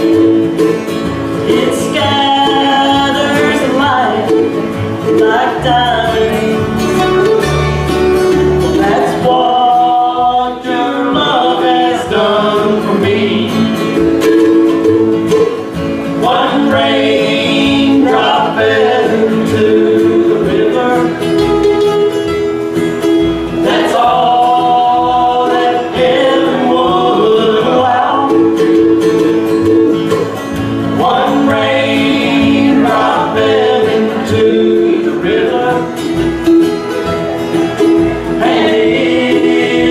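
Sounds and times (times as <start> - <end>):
acoustic guitar: 0.0 - 39.9
bluegrass band playing: 0.0 - 39.9
upright bass: 0.0 - 39.9
people singing: 1.4 - 7.6, 8.5 - 14.1, 15.3 - 21.4, 23.5 - 36.3, 37.8 - 39.9.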